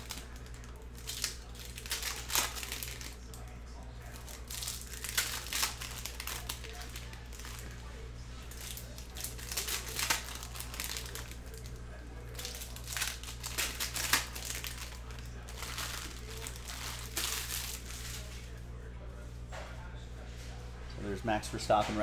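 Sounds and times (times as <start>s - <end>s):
foil wrappers crinkling: 0.0s - 18.6s
steady low hum: 0.0s - 22.0s.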